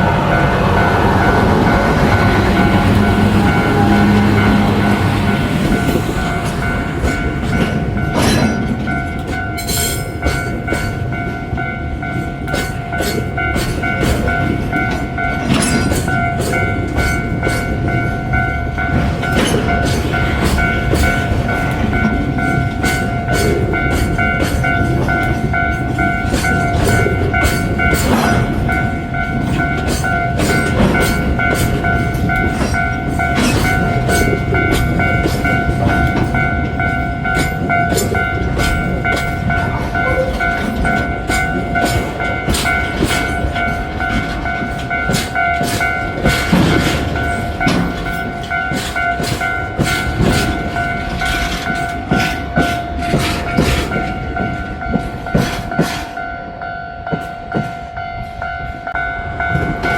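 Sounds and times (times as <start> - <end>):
steady high tones: 0.0 - 55.4
train wheels clattering on rails: 0.0 - 59.9.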